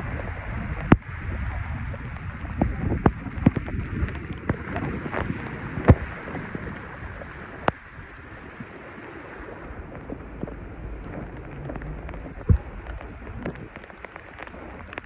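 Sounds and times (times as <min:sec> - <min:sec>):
splashing water: 0:00.0 - 0:15.0
wind on microphone: 0:00.0 - 0:15.0.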